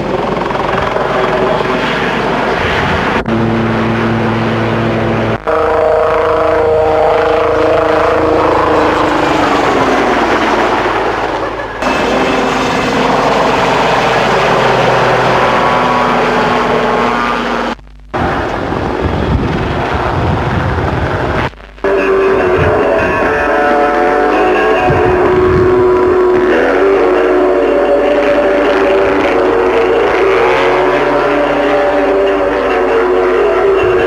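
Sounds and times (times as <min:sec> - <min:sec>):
helicopter turbine whine and rotor: 0:00.0 - 0:34.0.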